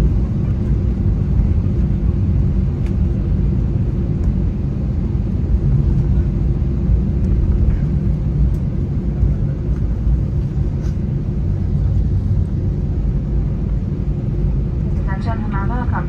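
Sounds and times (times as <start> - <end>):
aircraft cabin rumble: 0.0 - 16.0
steady hum: 0.0 - 16.0.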